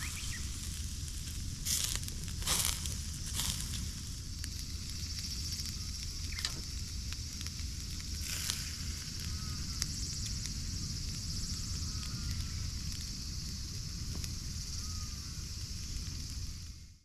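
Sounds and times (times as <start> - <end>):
fire crackling and popping: 0.0 - 17.0
food sizzling on a grill: 0.0 - 17.0.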